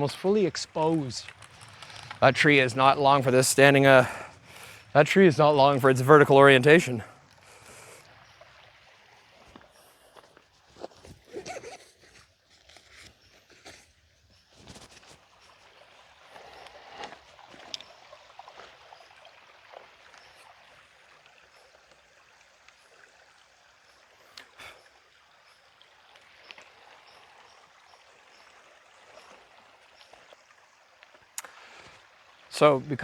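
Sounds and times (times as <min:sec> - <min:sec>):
stream trickling and babbling: 0:00.0 - 0:33.0.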